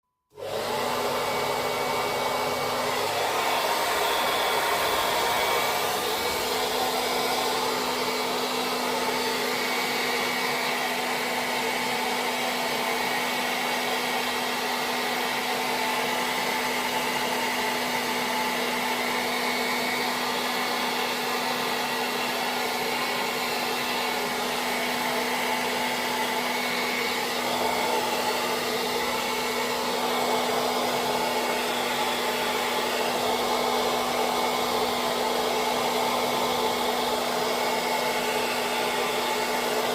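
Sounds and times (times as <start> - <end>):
hair dryer blowing: 0.3 - 39.9.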